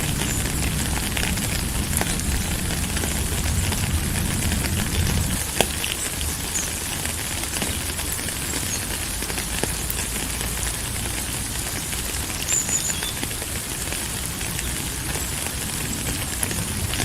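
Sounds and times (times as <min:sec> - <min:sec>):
rain drops pattering: 0:00.0 - 0:17.0.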